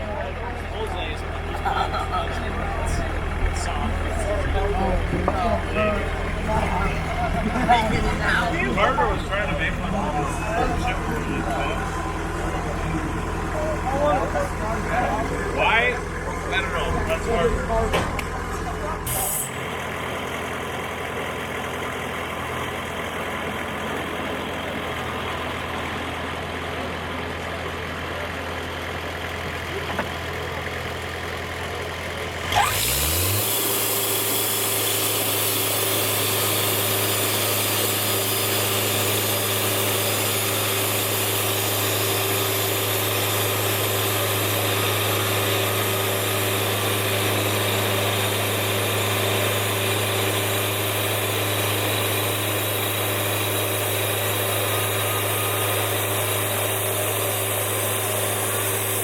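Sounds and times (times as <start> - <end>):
sawmill engine running and revving: 0.0 - 59.0.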